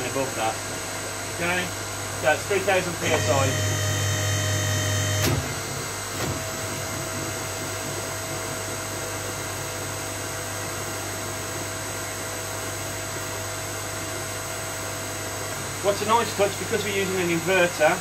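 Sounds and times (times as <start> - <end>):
motor and pump hum: 0.0 - 18.0.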